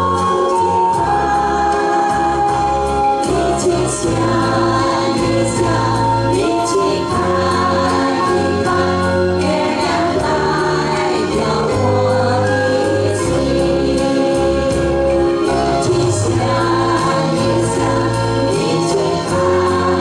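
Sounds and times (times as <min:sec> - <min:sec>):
backing accompaniment with bass: 0:00.0 - 0:20.0
group chorus singing: 0:00.1 - 0:20.0.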